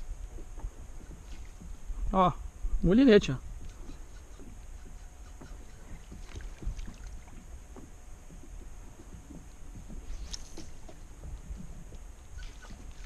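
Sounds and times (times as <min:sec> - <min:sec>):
water lapping against hull: 0:00.0 - 0:02.7, 0:03.4 - 0:13.0.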